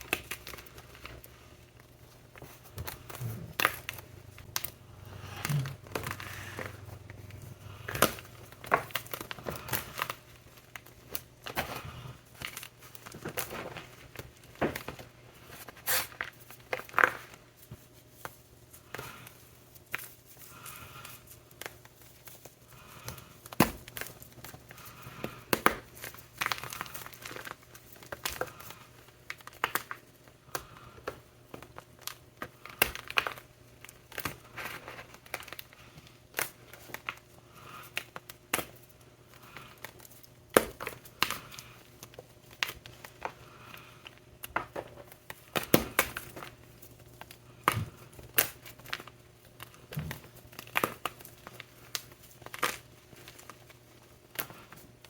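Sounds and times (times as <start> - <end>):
chalk blocks crushing and cracking: 0.0 - 55.0.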